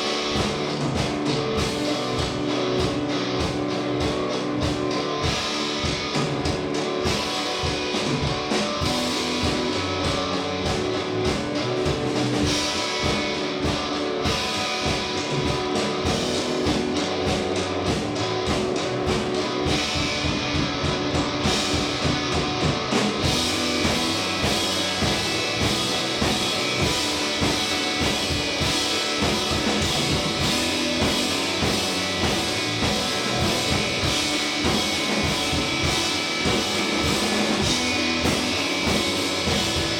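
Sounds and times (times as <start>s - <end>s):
drum kit: 0.0s - 39.9s
electric guitar: 0.0s - 39.9s
rock band playing: 0.0s - 39.9s.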